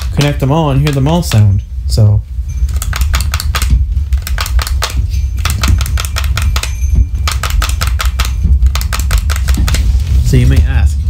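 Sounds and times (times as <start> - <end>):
rapid clicking and tapping: 0.0 - 1.7, 2.6 - 10.6
steady low rumble: 0.0 - 11.0.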